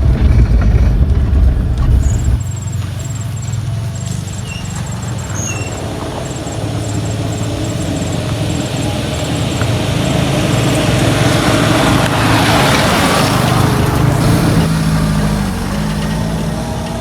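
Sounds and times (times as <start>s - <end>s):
road noise: 0.0s - 17.0s
vehicle engine: 0.0s - 17.0s.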